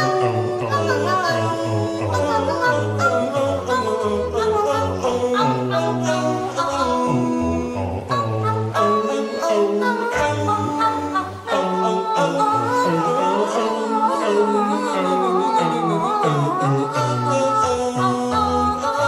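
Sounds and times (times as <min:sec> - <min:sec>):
a cappella harmony singing: 0:00.0 - 0:19.0.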